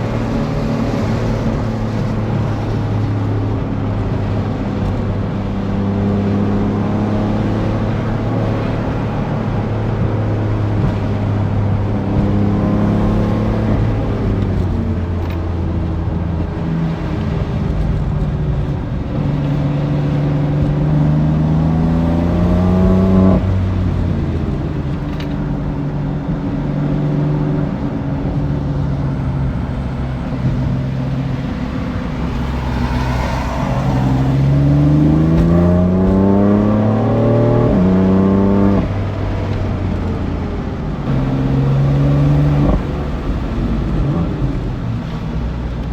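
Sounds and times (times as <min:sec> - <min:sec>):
car engine accelerating: 0:00.0 - 0:45.9
gear change: 0:00.0 - 0:45.9.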